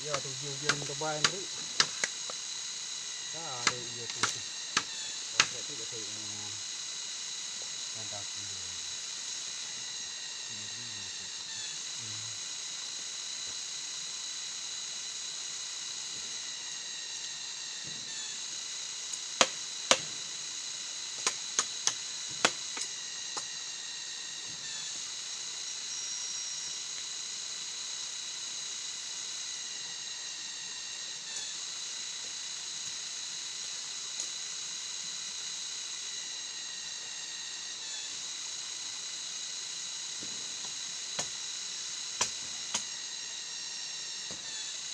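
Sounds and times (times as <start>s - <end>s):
cicadas droning: 0.0s - 44.9s.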